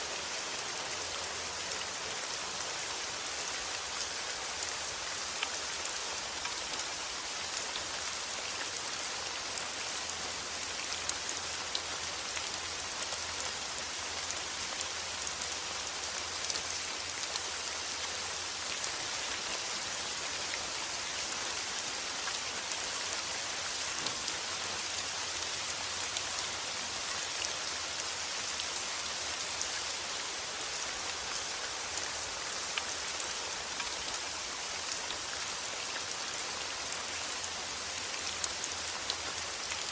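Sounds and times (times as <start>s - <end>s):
steady rain falling: 0.0s - 39.9s
raindrops ticking on a surface: 0.1s - 39.9s.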